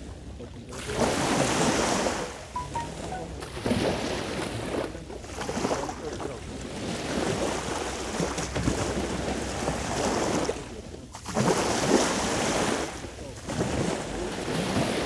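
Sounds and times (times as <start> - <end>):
waves washing on shore: 0.0 - 15.0.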